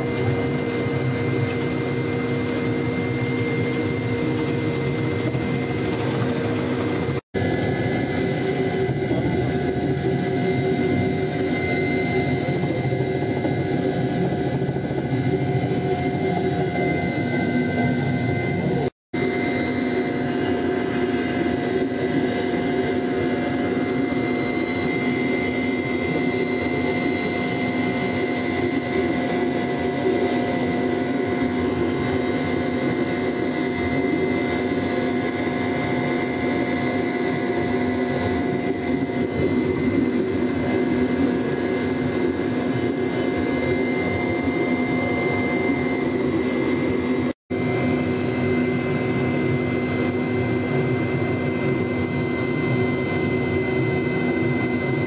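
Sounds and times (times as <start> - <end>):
engine drone with whine: 0.0 - 55.0.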